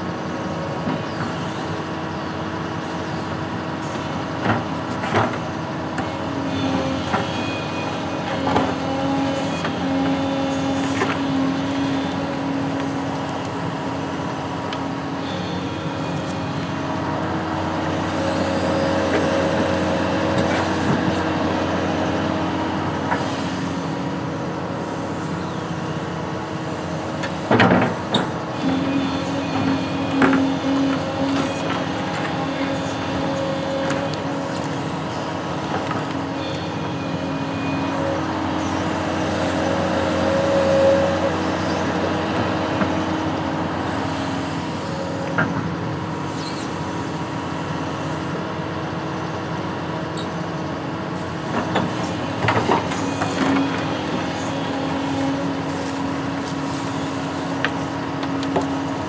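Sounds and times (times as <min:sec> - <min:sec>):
construction machine engine running: 0:00.0 - 0:59.0.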